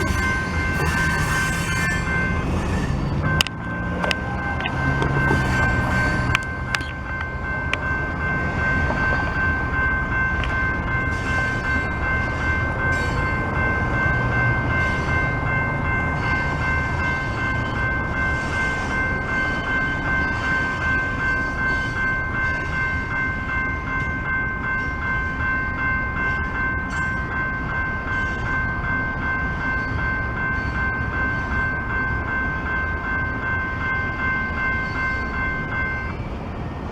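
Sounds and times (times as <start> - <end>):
crossing warning bell ringing: 0.0 - 36.9
freight train cars rumbling: 0.0 - 36.9.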